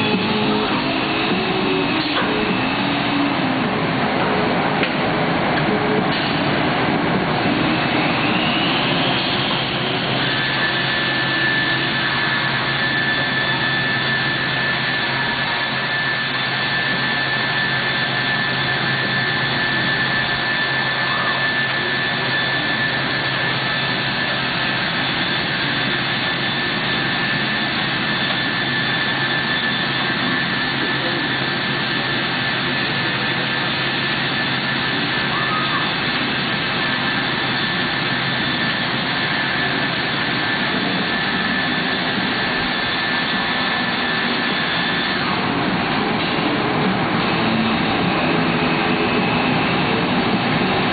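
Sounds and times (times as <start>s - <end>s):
boring machine whining: 0.0s - 50.9s.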